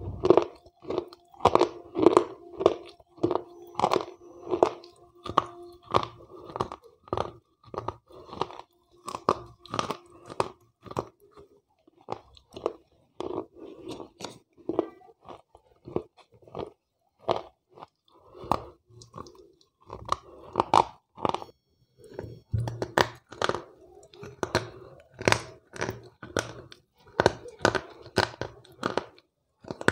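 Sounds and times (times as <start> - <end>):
gritty crunches of chewing: 0.0 - 29.9.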